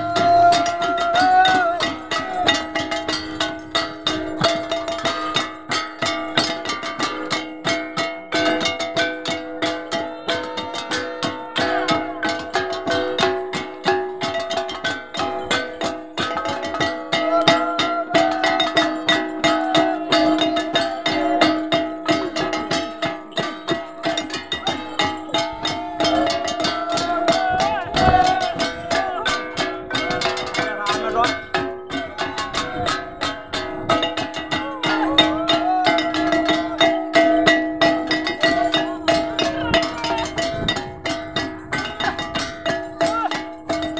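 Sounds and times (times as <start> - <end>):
gongs ringing: 0.0 - 43.9
hand drums beaten with sticks: 0.0 - 43.9
voices: 0.0 - 43.9.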